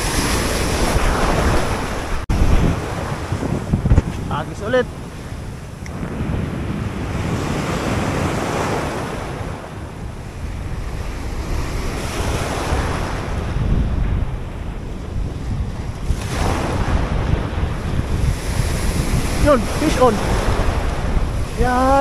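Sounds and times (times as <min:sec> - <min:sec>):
surf breaking on rocky shore: 0:00.0 - 0:22.0
wind buffeting microphone: 0:00.0 - 0:22.0.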